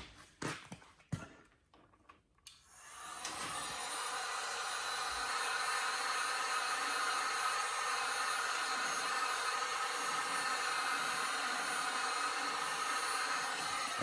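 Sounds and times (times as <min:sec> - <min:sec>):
heat gun blowing hot air: 0:02.7 - 0:14.0.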